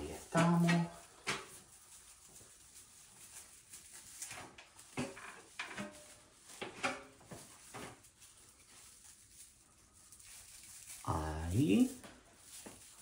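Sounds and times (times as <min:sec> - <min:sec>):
plastic mesh and branches rustling: 0:00.0 - 0:13.0.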